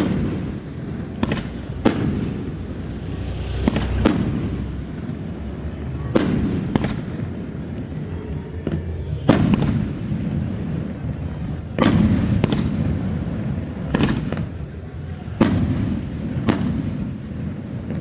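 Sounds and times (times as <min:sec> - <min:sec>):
low rumble of bursts: 0:00.0 - 0:17.9
fireworks bangs: 0:00.0 - 0:18.0.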